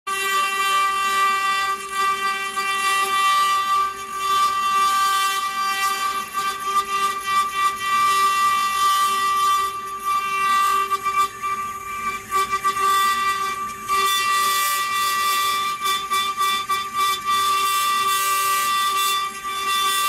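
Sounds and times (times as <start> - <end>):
router spindle high whine: 0.1 - 20.0.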